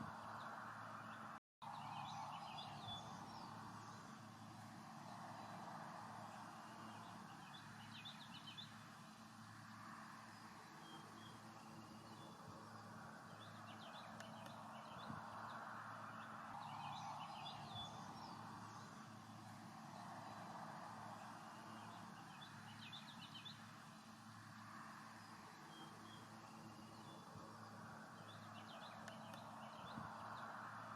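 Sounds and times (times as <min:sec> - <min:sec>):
soft outdoor hiss: 0:00.0 - 0:30.9
songbirds chirping: 0:00.0 - 0:30.9.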